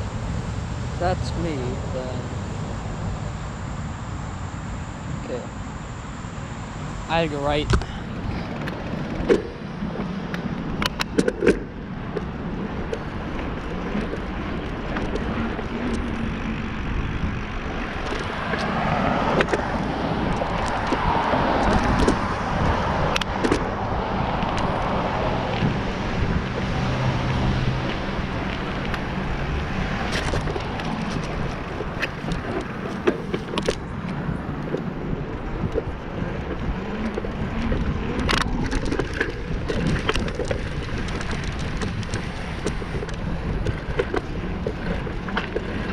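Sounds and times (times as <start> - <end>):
bicycle road noise: 0.0 - 45.9
car passing: 0.0 - 45.9.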